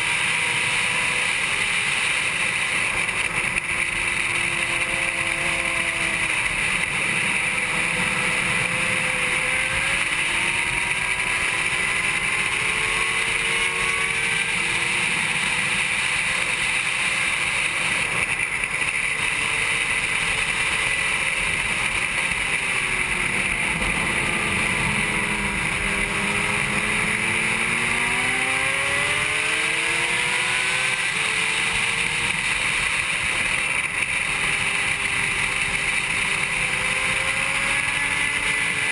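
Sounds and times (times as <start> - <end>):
motorcycle engine at racing speed: 0.0 - 38.9.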